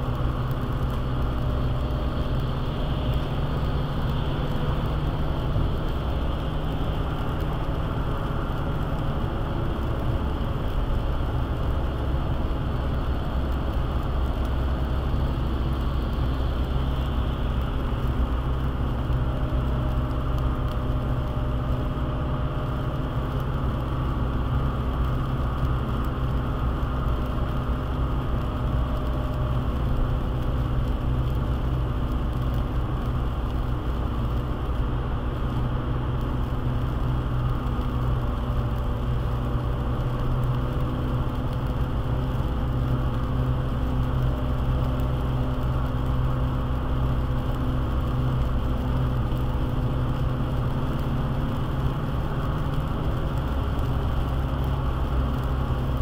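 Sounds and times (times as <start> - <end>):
car engine and tyre drone: 0.0 - 56.0
hiss of tyres on wet road: 0.0 - 56.0.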